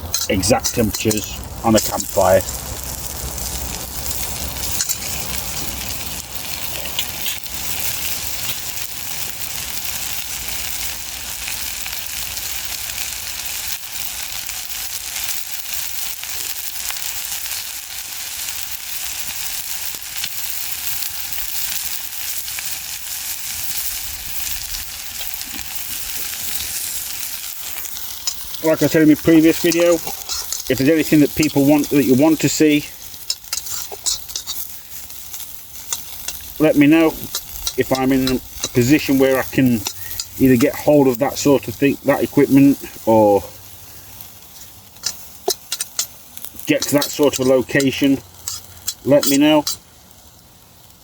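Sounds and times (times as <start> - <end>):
food sizzling in a pan: 0.0 - 51.0.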